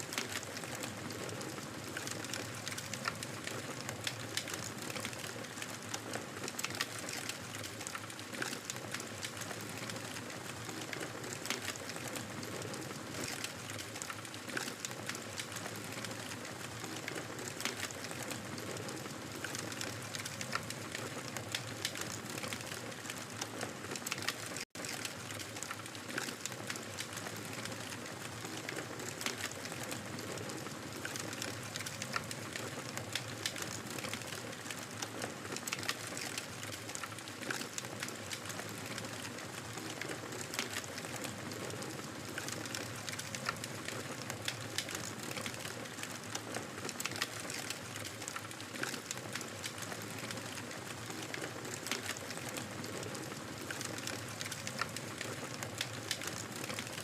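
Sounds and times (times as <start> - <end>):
fire pops and snaps: 0.1 - 57.0.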